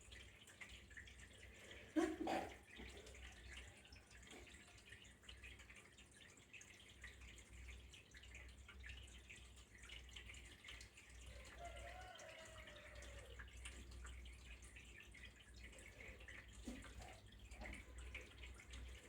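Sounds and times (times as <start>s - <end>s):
water dripping and trickling: 0.0s - 19.0s.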